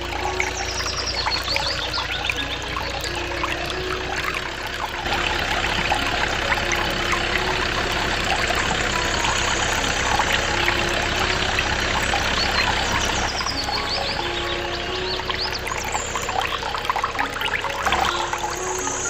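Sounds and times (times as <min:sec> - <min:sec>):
small motor humming: 0:00.0 - 0:19.0
water pouring into metal tank: 0:00.0 - 0:19.0.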